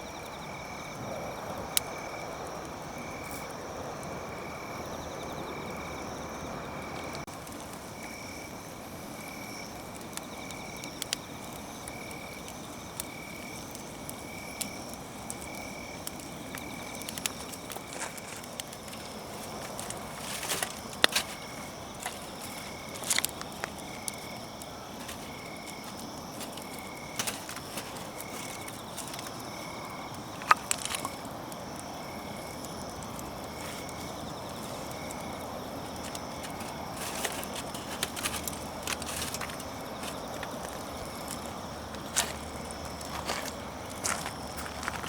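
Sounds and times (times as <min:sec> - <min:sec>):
campfire crackling and popping: 0:00.2 - 0:45.0.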